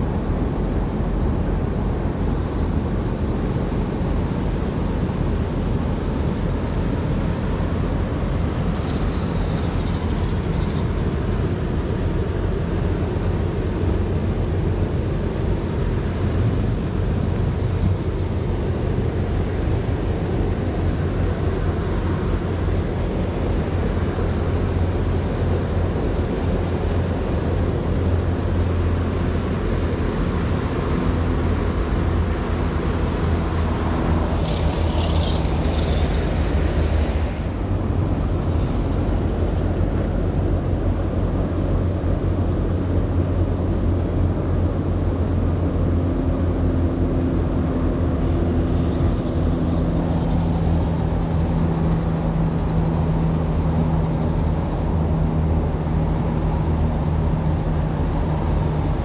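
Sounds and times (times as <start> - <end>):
constant low rumble: 0.0 - 59.0.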